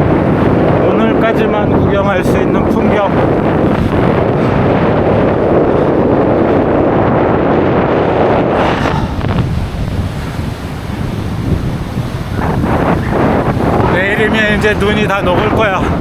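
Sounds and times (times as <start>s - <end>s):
surf on a beach: 0.0s - 16.0s
wind buffeting microphone: 0.0s - 16.0s.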